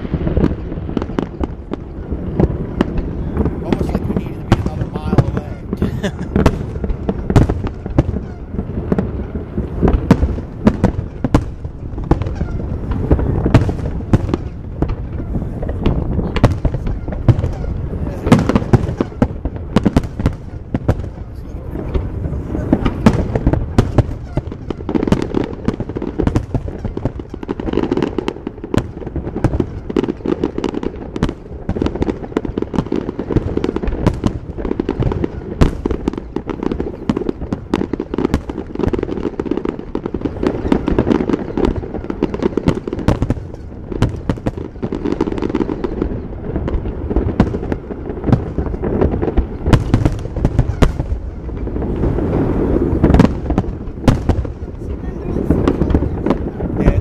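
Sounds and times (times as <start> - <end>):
fireworks bursts and crackles: 0.0 - 57.0.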